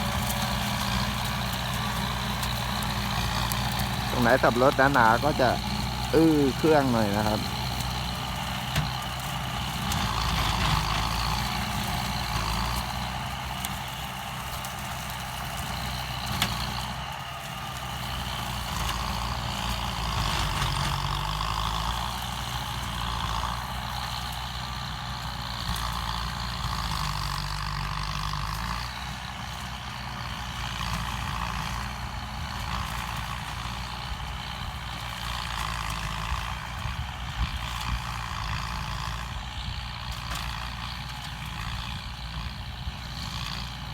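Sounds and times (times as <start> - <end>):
rotary tiller chopping stalks: 0.0 - 43.9
tractor diesel engine under load: 0.0 - 43.9.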